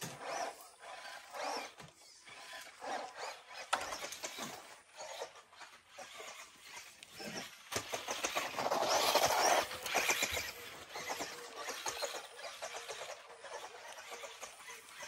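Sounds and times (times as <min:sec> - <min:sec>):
tyres scrabbling on dirt: 0:00.0 - 0:15.0
electric motor whining: 0:00.1 - 0:15.0.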